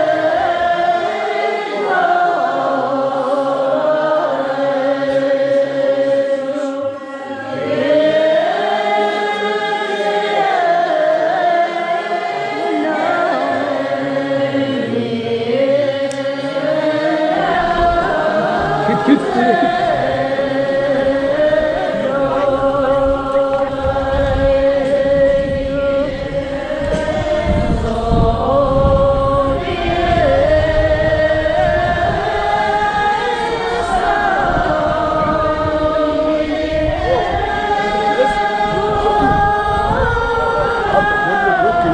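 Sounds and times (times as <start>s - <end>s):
voices chanting long notes: 0.0s - 41.9s.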